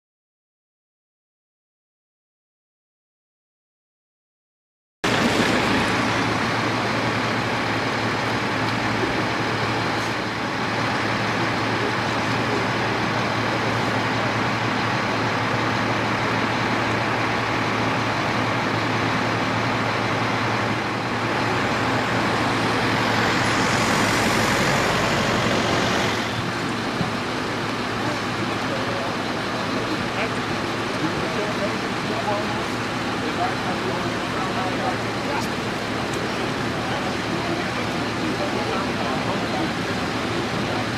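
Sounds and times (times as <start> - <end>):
low engine hum: 5.0 - 40.9
traffic on wet road: 5.1 - 40.9.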